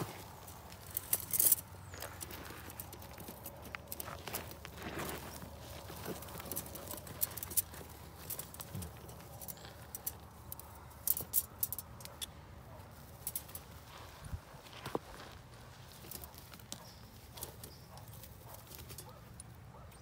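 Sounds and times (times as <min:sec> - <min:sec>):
gravel and dirt crunching: 0:00.0 - 0:19.6.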